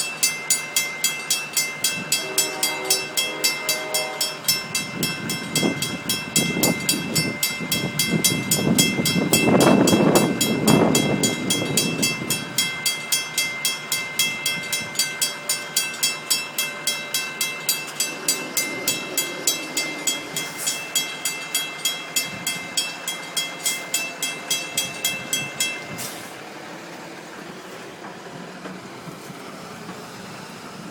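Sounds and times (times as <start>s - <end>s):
railroad crossing bell dinging: 0.0s - 27.4s
passing train rumbling: 0.0s - 30.9s.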